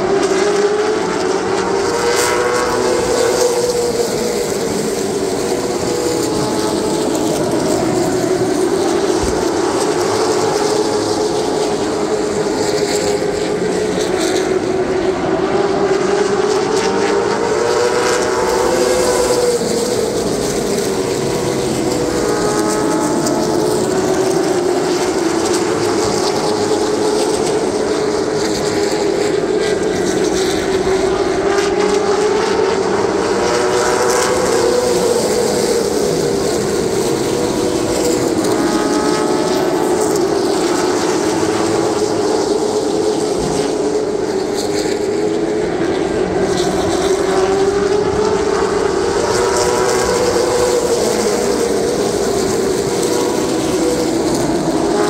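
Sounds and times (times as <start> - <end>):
race car engine drone: 0.0 - 55.0.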